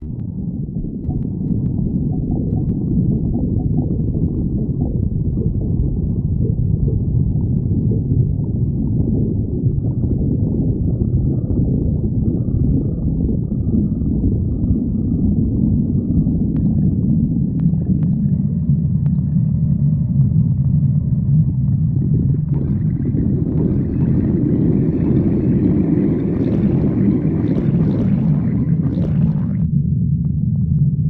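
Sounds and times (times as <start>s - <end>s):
stomach growling: 0.0s - 30.4s.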